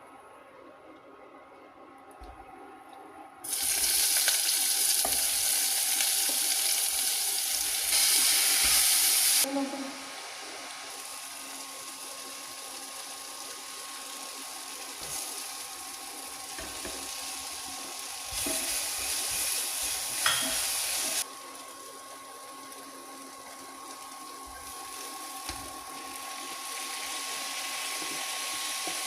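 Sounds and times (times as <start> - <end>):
background hiss and hum: 0.0 - 29.0.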